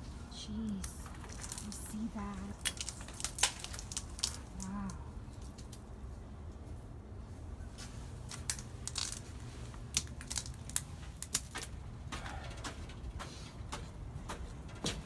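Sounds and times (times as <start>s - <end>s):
low steady rumble: 0.0s - 14.8s.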